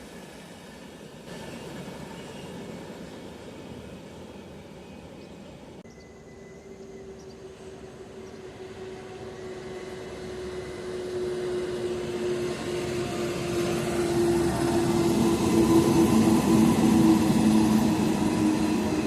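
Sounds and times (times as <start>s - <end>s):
train approaching: 0.0s - 19.0s.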